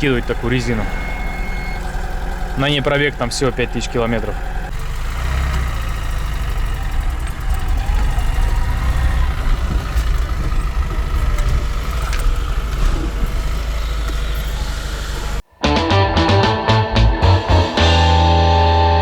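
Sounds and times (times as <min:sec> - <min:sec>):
car engine rumble: 0:00.0 - 0:15.5
road noise: 0:00.0 - 0:19.0.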